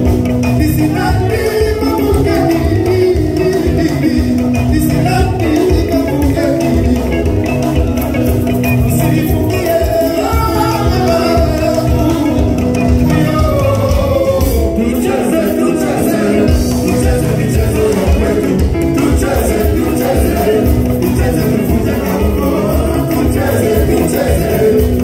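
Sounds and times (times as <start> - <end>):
man singing into microphone: 0.0 - 7.7, 8.8 - 25.0
live band with electric guitars: 0.0 - 25.0.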